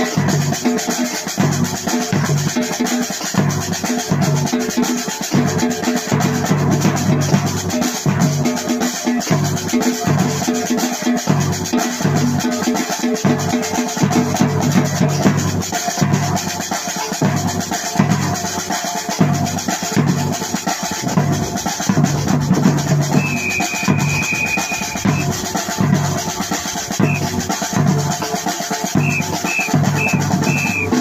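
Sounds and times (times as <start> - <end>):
music with drum beat and bass: 0.0 - 31.0.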